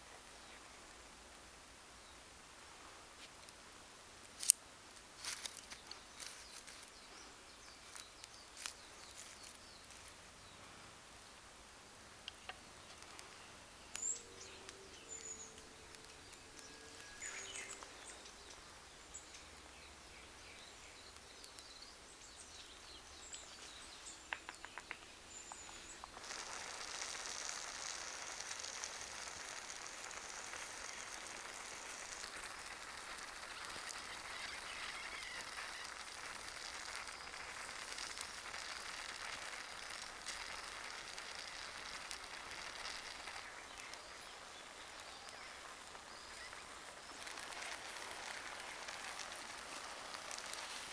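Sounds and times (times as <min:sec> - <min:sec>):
steady hiss: 0:00.0 - 0:50.9
sharp crackles: 0:02.5 - 0:11.3, 0:12.1 - 0:50.9
small birds chirping: 0:05.2 - 0:11.4, 0:12.1 - 0:50.9.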